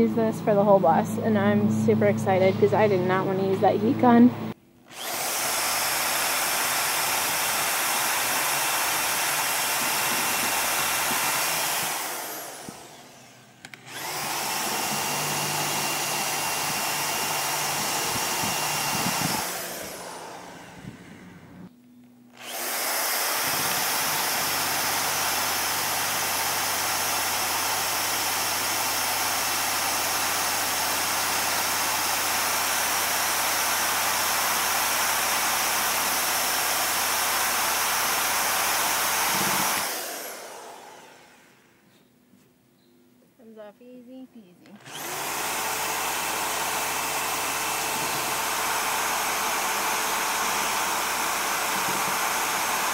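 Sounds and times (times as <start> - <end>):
power tool winding down whine: 0.0 - 21.7, 22.3 - 41.7, 44.7 - 52.9
power tool eraser wheel on metal: 4.9 - 21.6, 22.4 - 41.6, 44.8 - 52.9.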